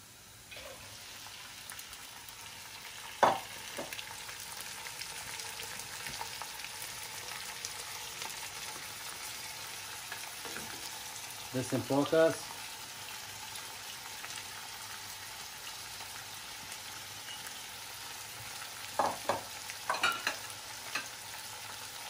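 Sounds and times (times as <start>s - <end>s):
lentils sizzling in oil: 0.0s - 22.0s.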